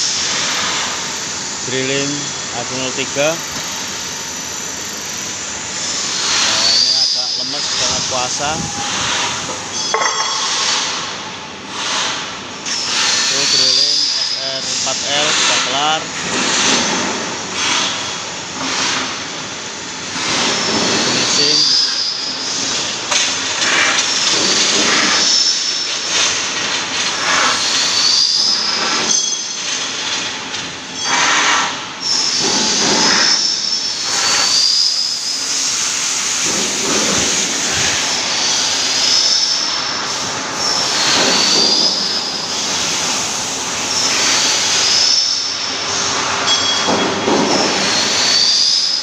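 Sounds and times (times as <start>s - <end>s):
high squealing whine: 0.0s - 11.7s, 12.4s - 49.0s
factory machinery noise: 0.0s - 49.0s.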